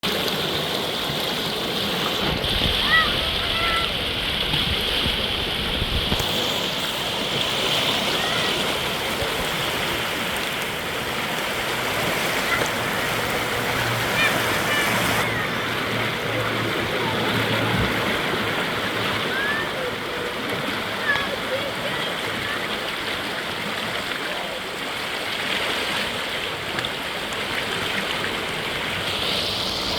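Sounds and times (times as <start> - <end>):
stream water rushing: 0.0 - 29.9.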